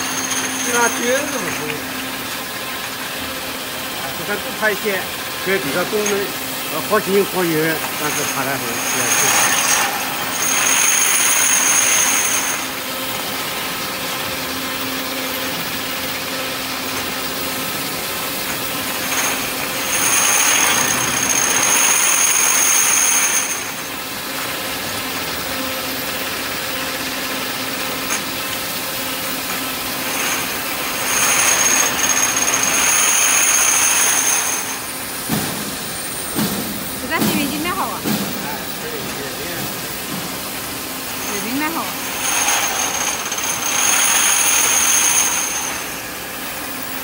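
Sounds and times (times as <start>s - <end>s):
machine motor hum: 0.0s - 47.0s.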